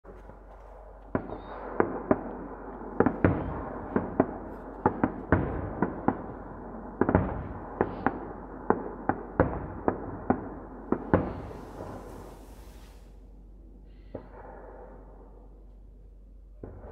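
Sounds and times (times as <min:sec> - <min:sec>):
fireworks bangs with echo: 0:00.7 - 0:13.2, 0:14.1 - 0:15.5, 0:16.5 - 0:16.9.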